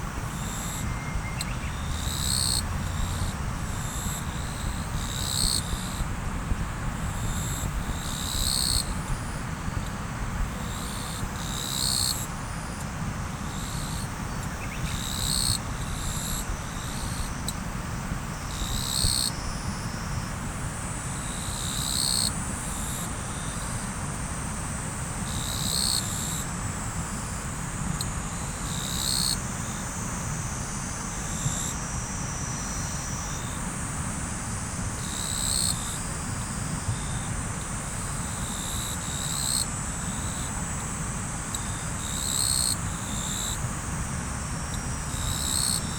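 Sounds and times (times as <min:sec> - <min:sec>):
insects trilling: 0:00.1 - 0:06.0, 0:07.0 - 0:09.5, 0:10.5 - 0:24.0, 0:24.6 - 0:45.9.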